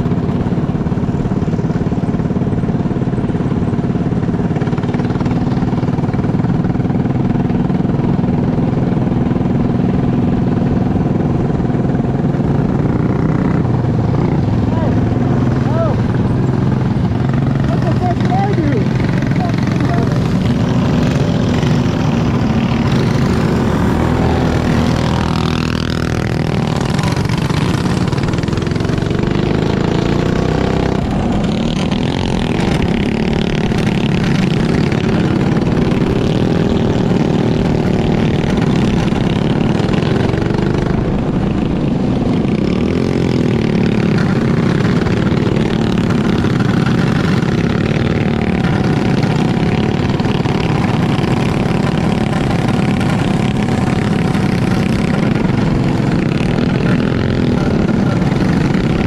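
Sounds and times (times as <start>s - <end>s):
kart engines racing: 0.0s - 59.0s.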